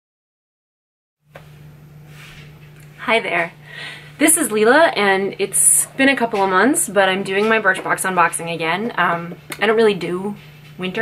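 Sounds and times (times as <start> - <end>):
low hum: 1.4 - 11.0.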